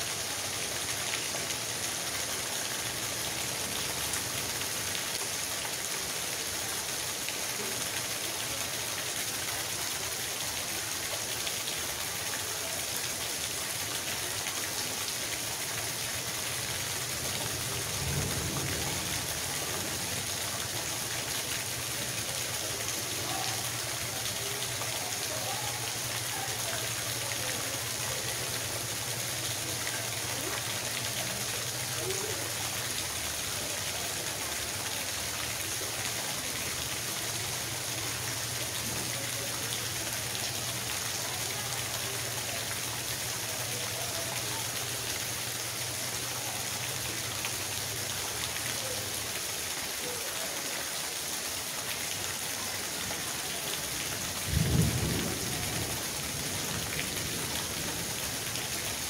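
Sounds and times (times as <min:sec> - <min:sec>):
rain on gravel: 0:00.0 - 0:59.0.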